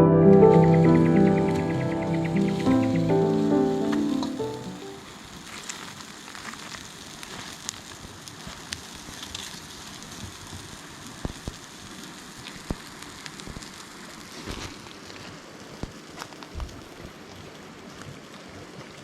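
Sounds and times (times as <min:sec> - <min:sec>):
campfire crackling: 0:00.3 - 0:16.9.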